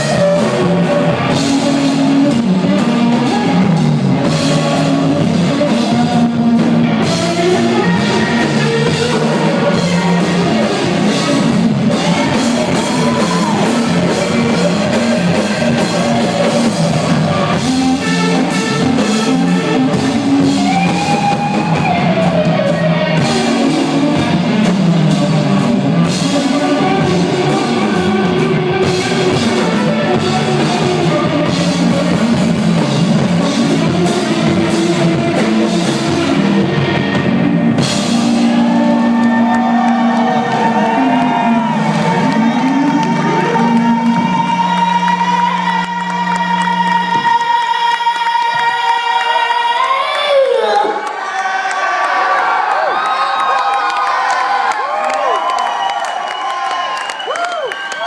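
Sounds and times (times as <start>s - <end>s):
drum kit: 0.0s - 48.8s
rock band playing: 0.0s - 49.6s
distorted electric guitar: 0.0s - 50.0s.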